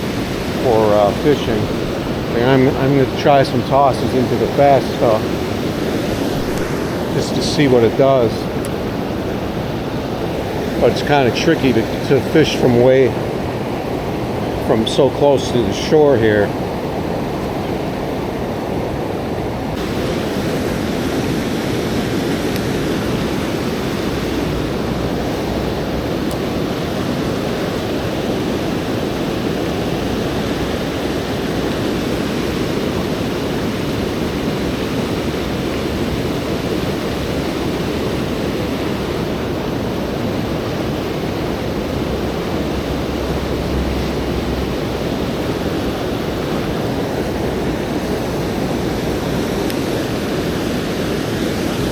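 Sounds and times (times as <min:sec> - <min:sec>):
fast-flowing river rushing: 0:00.0 - 0:51.9.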